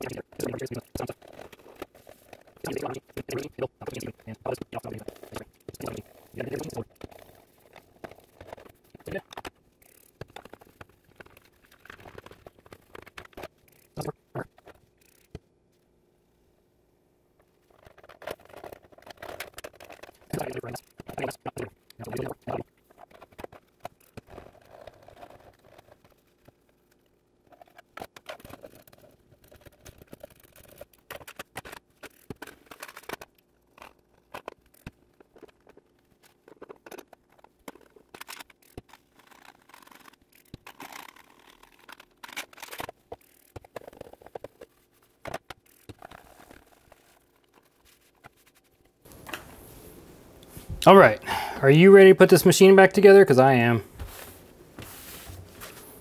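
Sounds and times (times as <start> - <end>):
hands scraping plastic parts: 0.0 - 15.4, 17.4 - 49.0.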